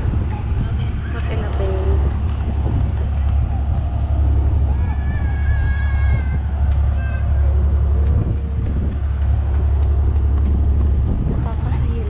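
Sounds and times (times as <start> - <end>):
ferry engine rumble: 0.0 - 12.0
wind over deck: 0.0 - 12.0.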